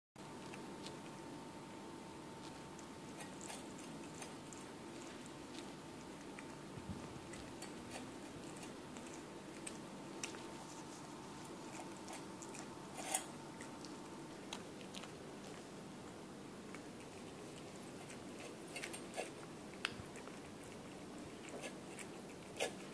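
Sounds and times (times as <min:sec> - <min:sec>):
cat chewing and lapping: 0:00.2 - 0:22.9.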